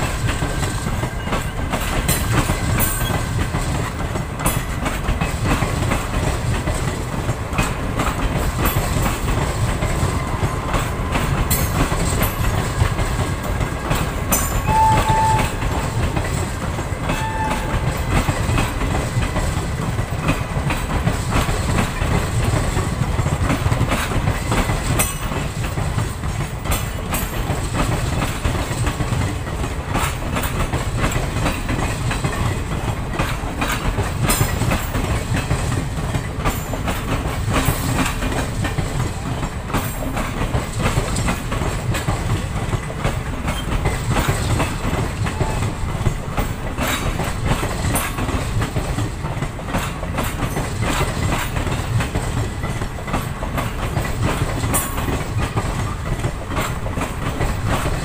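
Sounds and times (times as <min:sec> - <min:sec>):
train coaches rolling past: 0:00.0 - 0:58.0
wheels clicking over rail joints: 0:00.0 - 0:58.0.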